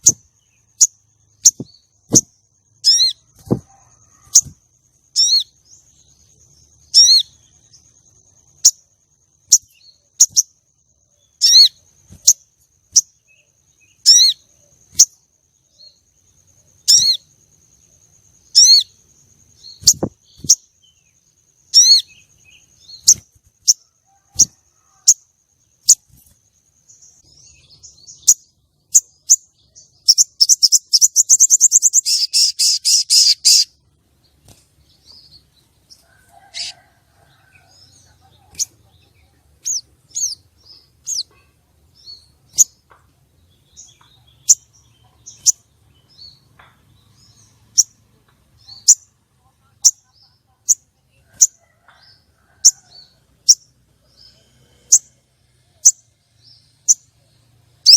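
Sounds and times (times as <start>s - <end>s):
sunbird chirping and trilling: 0.0s - 57.9s.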